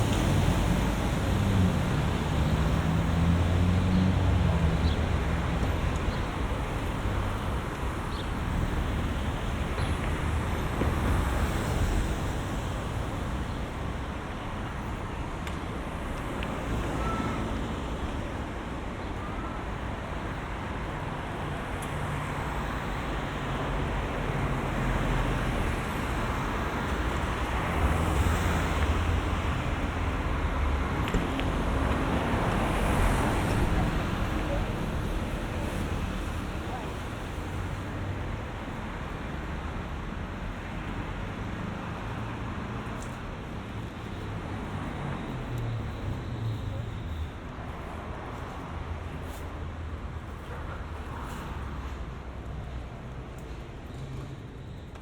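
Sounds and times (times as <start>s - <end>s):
cars passing: 0.0s - 18.8s, 19.6s - 55.0s.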